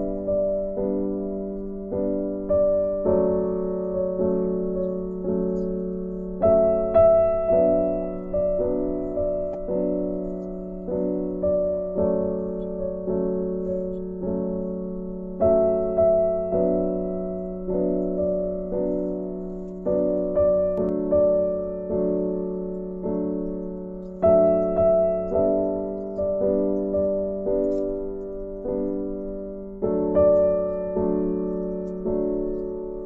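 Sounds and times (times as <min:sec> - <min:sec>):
soft piano music: 0:00.0 - 0:33.0.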